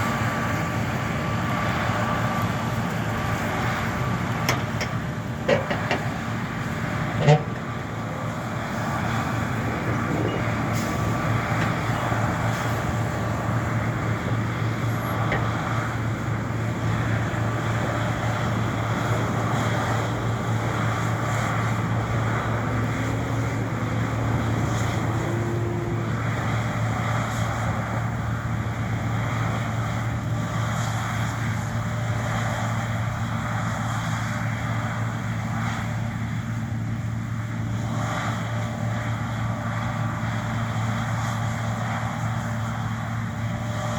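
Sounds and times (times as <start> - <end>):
combine harvester engine drone: 0.0 - 43.9.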